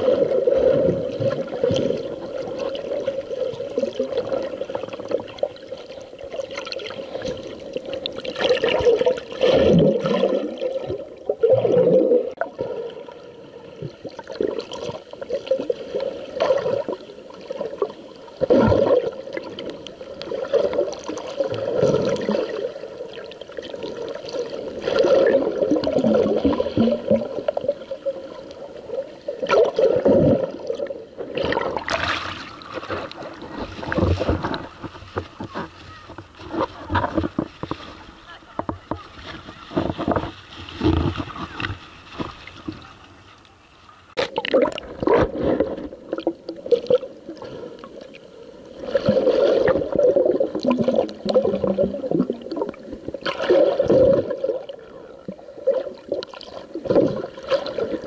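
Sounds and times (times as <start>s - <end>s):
underwater sloshing and gurgling: 0.0s - 58.0s.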